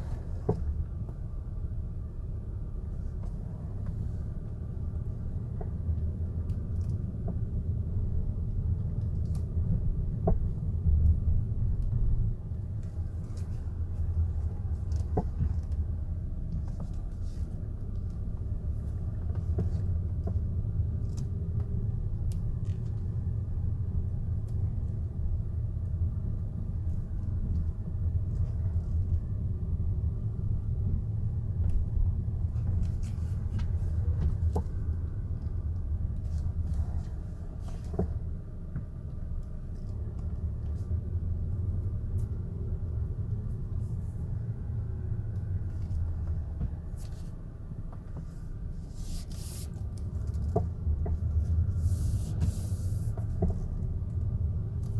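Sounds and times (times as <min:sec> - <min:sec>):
road rumble: 0:00.0 - 0:54.9.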